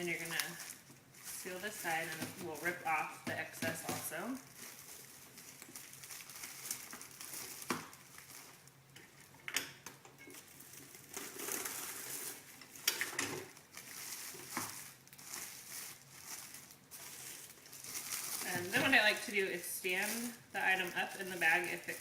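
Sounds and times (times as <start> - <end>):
plastic film crinkling: 0.0 - 9.3, 10.3 - 22.0.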